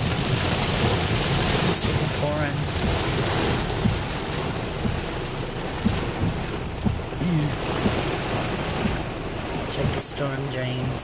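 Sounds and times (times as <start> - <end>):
heavy rain on a car: 0.0 - 11.0
road rumble: 0.0 - 11.0.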